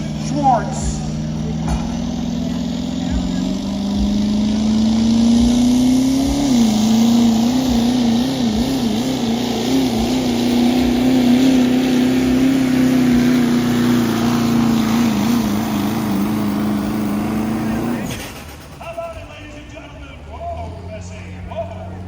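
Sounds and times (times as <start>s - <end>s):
diesel pickup engine under load: 0.0s - 22.0s.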